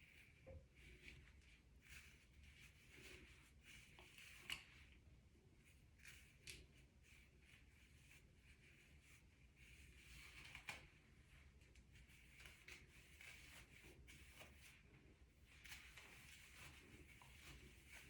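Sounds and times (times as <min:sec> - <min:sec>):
faint light clicks and rustles: 0:00.0 - 0:18.0.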